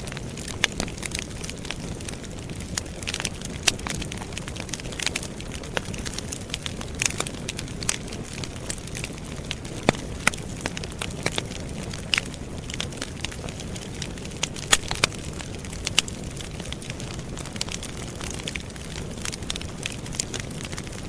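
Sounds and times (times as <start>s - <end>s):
campfire flame rushing: 0.0s - 21.0s
fire crackling and popping: 0.0s - 21.0s.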